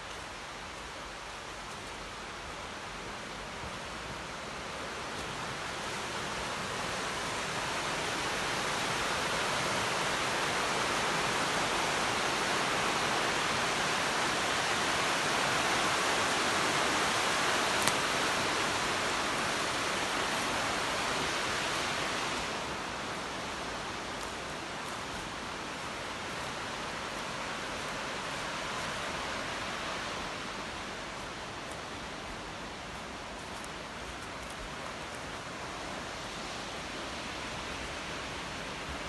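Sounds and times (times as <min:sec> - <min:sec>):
rushing water: 0:00.0 - 0:39.0.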